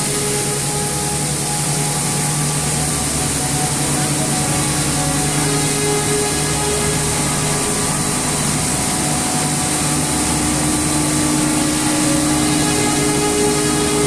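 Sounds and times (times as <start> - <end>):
loud hiss: 0.0 - 14.0
machine motor drone: 0.0 - 14.0.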